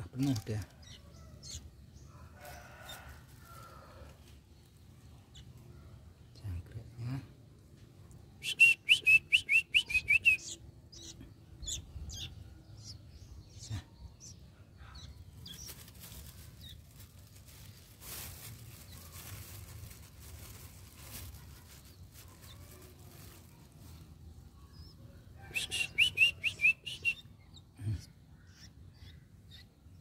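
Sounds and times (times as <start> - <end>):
fledgling birds chirping: 0.0 - 7.4, 8.1 - 30.0.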